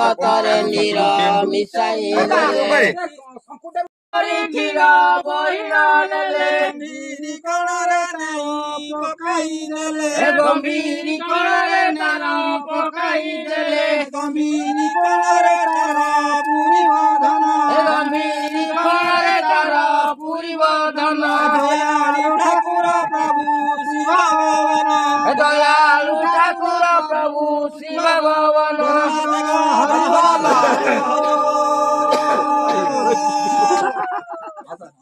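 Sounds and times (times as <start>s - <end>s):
voices singing a devotional song: 0.0s - 3.2s, 4.2s - 34.8s.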